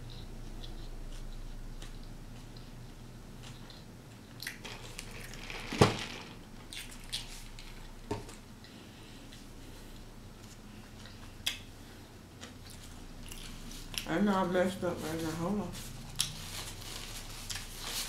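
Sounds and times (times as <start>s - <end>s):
person chewing with wet smacks: 0.0s - 5.4s, 6.6s - 14.6s, 15.8s - 18.0s.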